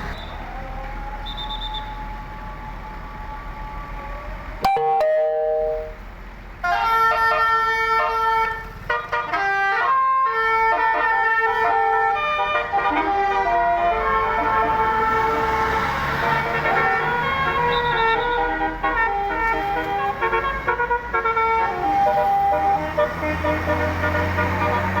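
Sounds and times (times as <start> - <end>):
musical bus horn melody: 4.6 - 25.0.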